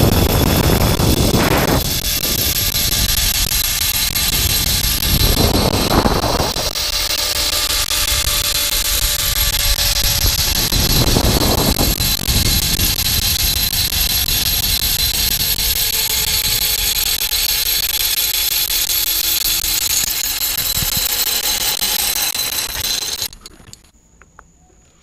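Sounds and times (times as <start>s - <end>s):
wind rush on microphone: 0.0s - 18.8s, 19.5s - 23.3s
zip line pulleys whirring: 0.0s - 23.9s.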